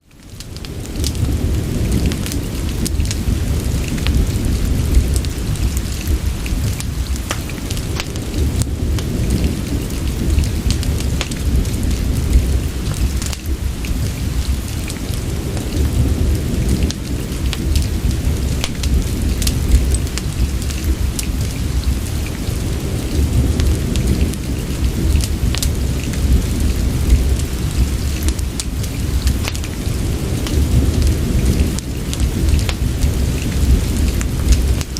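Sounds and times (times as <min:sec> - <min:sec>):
fire crackling: 0:00.0 - 0:34.9
steady rain falling: 0:00.0 - 0:34.9
deep low rumble: 0:00.6 - 0:34.9.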